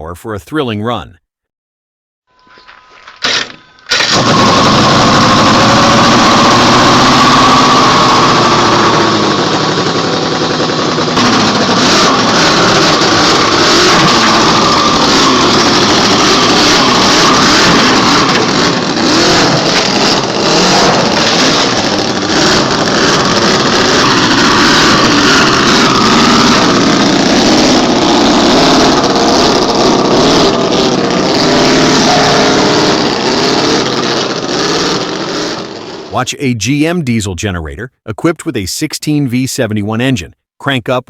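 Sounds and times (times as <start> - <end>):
model engine revving: 3.2 - 36.1.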